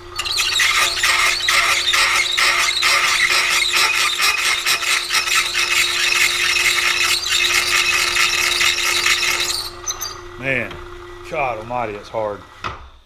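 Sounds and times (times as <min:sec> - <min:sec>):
drill grinding and chattering: 0:00.0 - 0:10.5
machine steady hum: 0:00.0 - 0:13.0.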